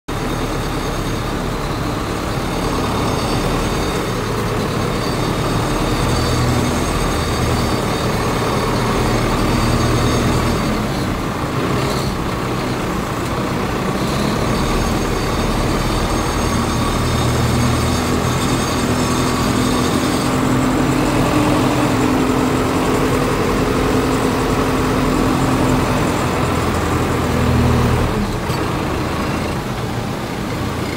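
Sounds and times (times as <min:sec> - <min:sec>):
thin high whine: 0:00.1 - 0:11.4, 0:14.0 - 0:28.6
tractor diesel engine running: 0:00.1 - 0:30.9.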